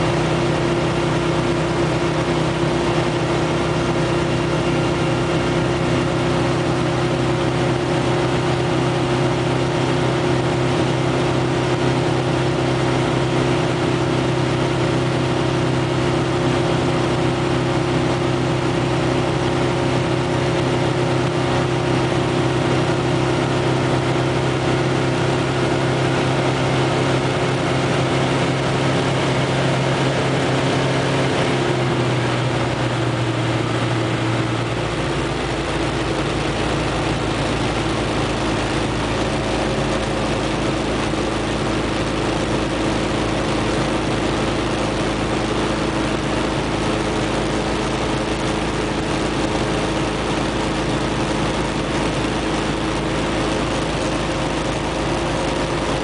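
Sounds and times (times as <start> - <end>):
propeller aircraft engine in cockpit: 0.0 - 56.0.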